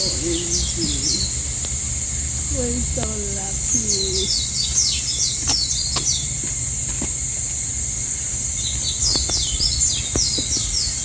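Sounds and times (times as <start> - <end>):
high-pitched insect drone: 0.0 - 11.0
small bird chirping: 0.0 - 11.0.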